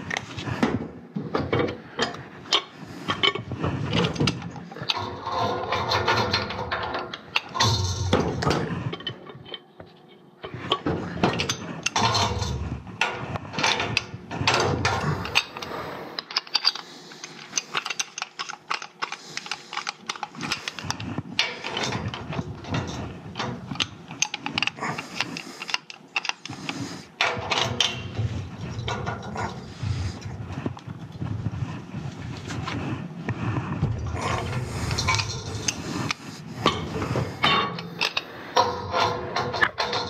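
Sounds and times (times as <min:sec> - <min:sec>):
pipe wrenches clicking and scraping on pipe: 0:00.0 - 0:40.0.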